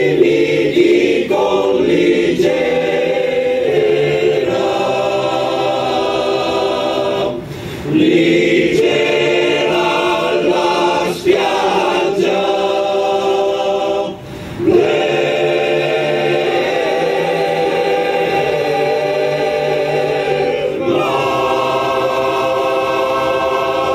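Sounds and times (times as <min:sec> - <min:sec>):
men's choir singing: 0:00.0 - 0:23.9.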